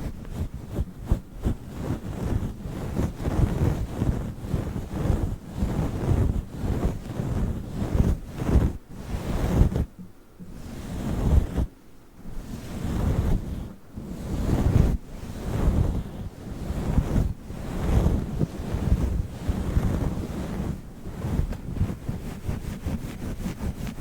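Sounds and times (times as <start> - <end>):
windscreen rubbing on microphone: 0.0 - 24.0.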